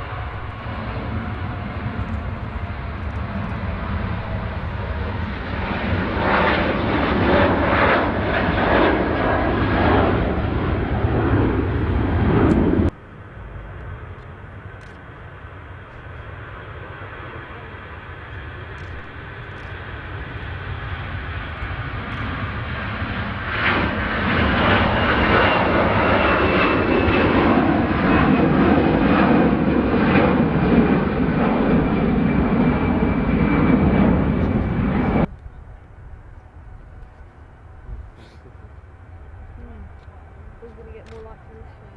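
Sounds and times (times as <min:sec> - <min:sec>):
jet engines whining and roaring: 0:00.0 - 0:41.9.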